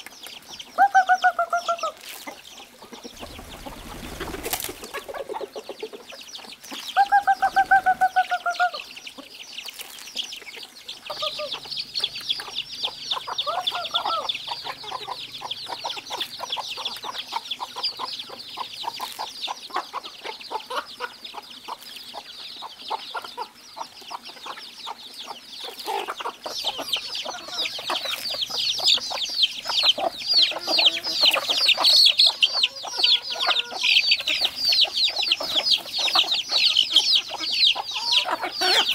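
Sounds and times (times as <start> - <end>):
chicks cheeping: 0.0 - 38.9
hens clucking: 0.0 - 38.9.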